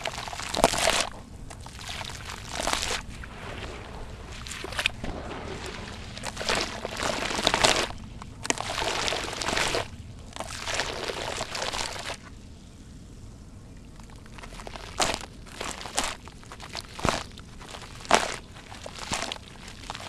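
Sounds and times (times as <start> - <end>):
wet cement squeezed in water: 0.0 - 12.3, 13.9 - 20.0.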